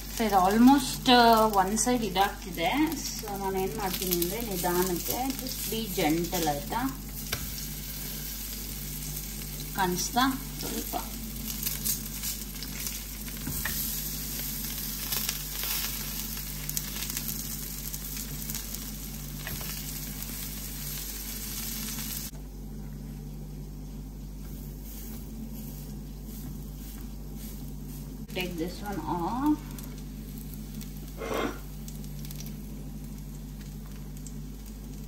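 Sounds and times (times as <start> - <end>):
patties sizzling in oil: 0.0 - 35.0.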